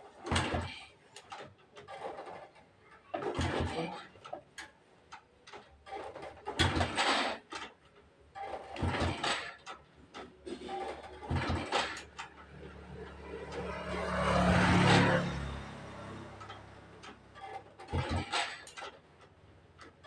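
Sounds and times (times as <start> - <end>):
motorcycle engine clattering kick-start: 0.2 - 4.8, 5.4 - 20.0.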